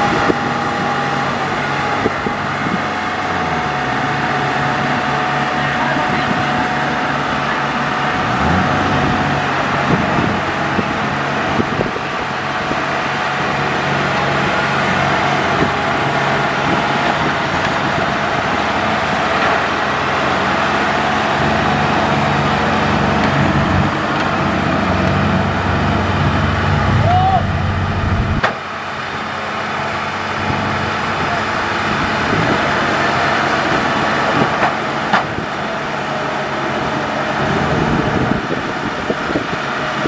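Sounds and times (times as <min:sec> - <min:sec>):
diesel engines running: 0:00.0 - 0:40.0.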